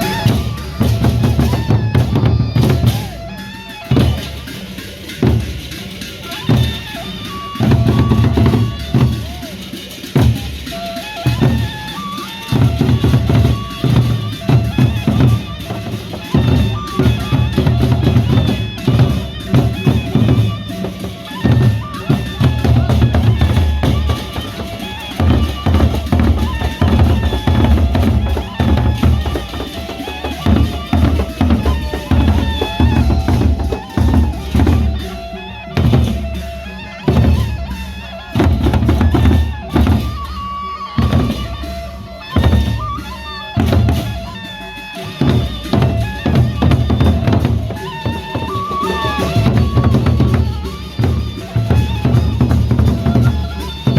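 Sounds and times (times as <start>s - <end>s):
drum-led band music: 0.0s - 53.9s.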